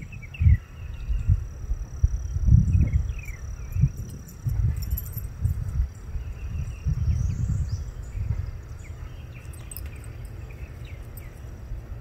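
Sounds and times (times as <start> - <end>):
wind rumble on microphone: 0.0 - 12.0
small birds chirping: 2.2 - 12.0.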